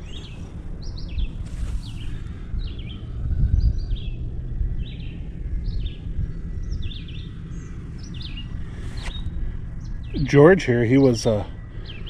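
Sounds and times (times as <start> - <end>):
birds chirping: 0.0 - 12.0
low rumbling noise: 0.0 - 12.0.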